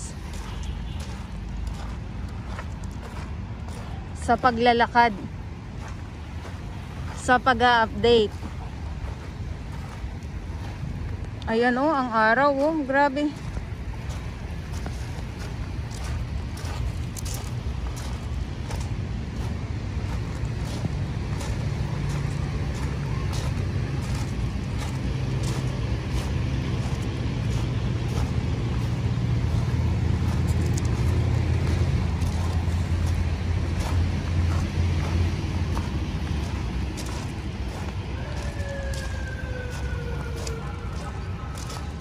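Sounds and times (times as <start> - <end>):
footsteps on pebbles: 0.0 - 42.0
low engine drone: 0.0 - 42.0.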